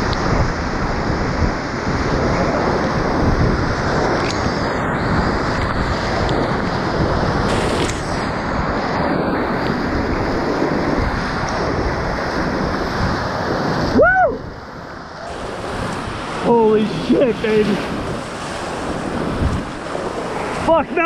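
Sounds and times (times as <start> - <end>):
waves splashing over boat: 0.0 - 21.0
whitewater rapid roaring: 0.0 - 21.0.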